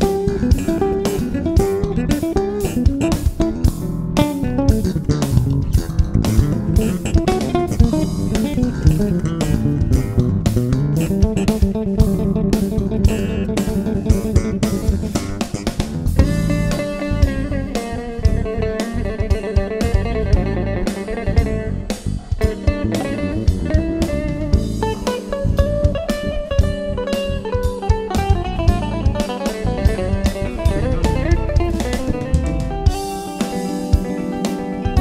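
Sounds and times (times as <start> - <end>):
bass guitar line: 0.0 - 35.0
plucked string melody: 0.0 - 35.0
steady drum beat: 0.0 - 35.0.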